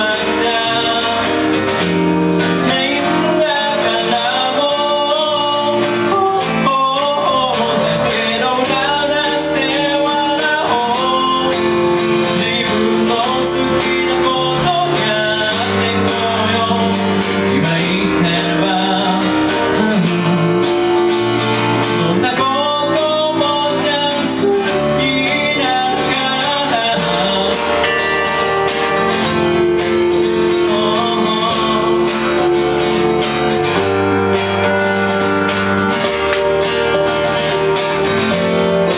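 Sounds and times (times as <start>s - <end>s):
man singing: 0.0s - 35.2s
keyboard: 0.0s - 38.9s
strummed acoustic guitar: 0.0s - 38.9s.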